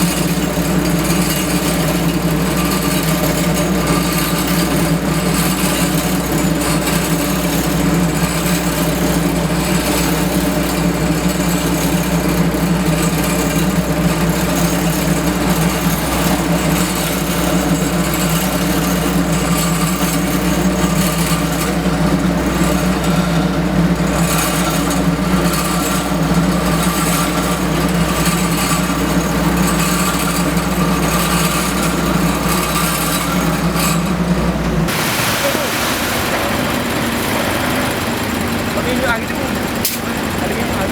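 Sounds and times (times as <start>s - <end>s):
diesel engine drone: 6.6s - 40.9s.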